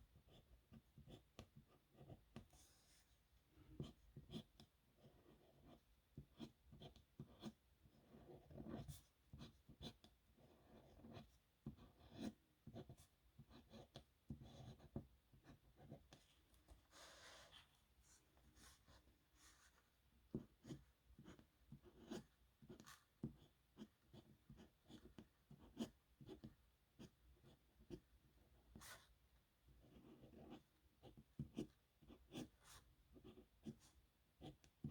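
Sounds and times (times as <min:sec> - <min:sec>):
nib pen scratching on paper: 0:00.2 - 0:03.0, 0:03.7 - 0:16.3, 0:16.9 - 0:29.2, 0:29.8 - 0:34.9.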